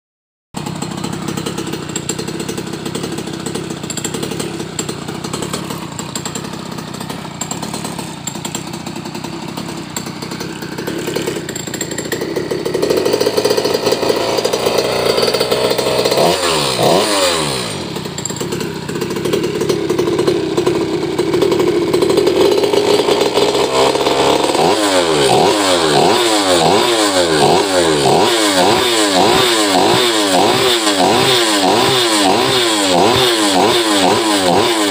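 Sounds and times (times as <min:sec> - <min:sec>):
small two-stroke engine revving: 0:00.6 - 0:34.9.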